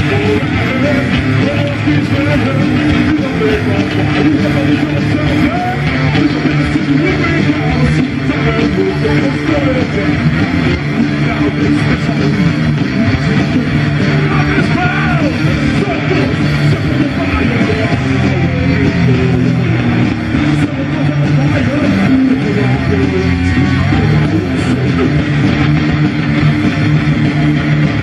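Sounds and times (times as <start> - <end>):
live heavy metal band: 0.0 - 28.0
singer's voice: 0.0 - 28.0.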